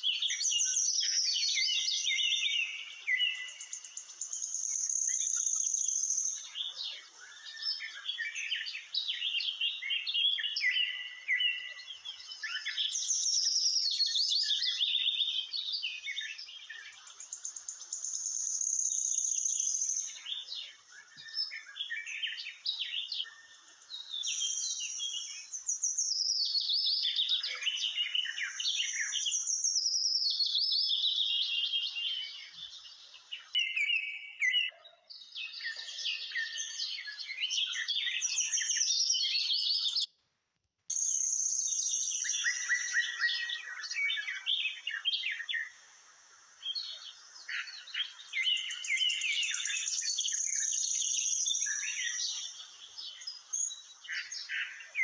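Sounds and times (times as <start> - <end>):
small birds chirping and singing: 0.0 - 40.3, 40.9 - 55.0.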